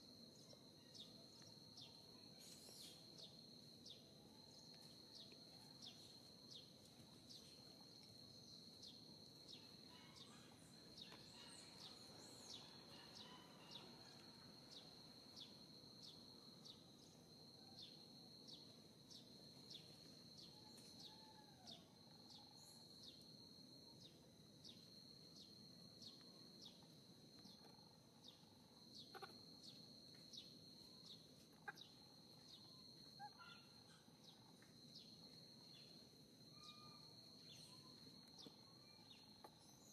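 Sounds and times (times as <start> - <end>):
insect high-pitched trill: 0.0 - 39.9
faint chirping calls: 0.3 - 23.3, 24.0 - 39.9.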